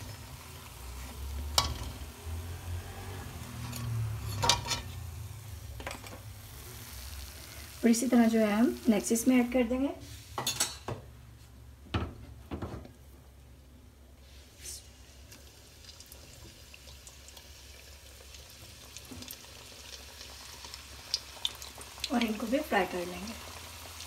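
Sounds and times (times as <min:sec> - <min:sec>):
food sizzling in hot oil: 0:00.0 - 0:10.8, 0:14.2 - 0:24.0.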